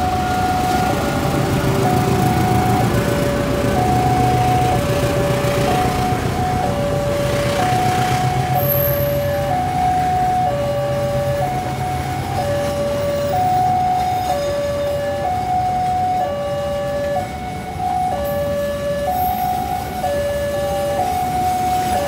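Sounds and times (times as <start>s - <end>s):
low rumble of traffic: 0.0s - 22.0s
two-tone level crossing alarm: 0.0s - 22.0s.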